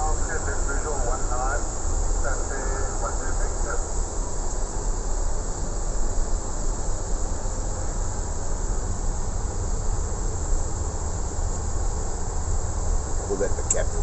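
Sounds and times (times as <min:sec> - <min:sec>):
air conditioning and fans hissing: 0:00.0 - 0:14.0
constant low hum: 0:00.0 - 0:14.0.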